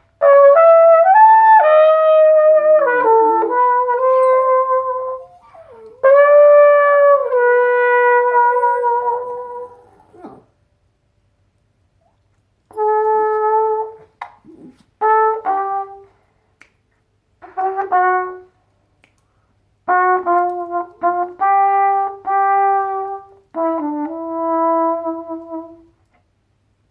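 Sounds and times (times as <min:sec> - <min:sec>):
trumpet playing blues: 0:00.0 - 0:10.3, 0:12.7 - 0:16.3, 0:17.4 - 0:18.9, 0:19.7 - 0:26.0.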